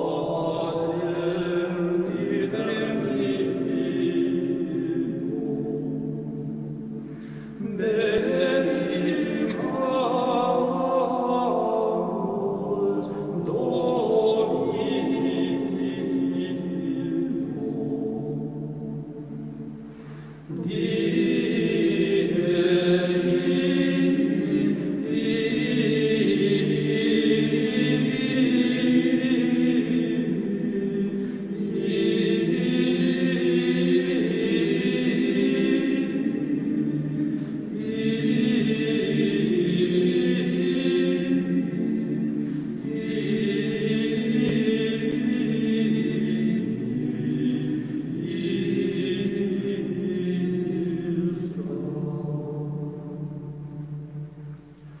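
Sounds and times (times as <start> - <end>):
choir chanting: 0.0 - 55.0.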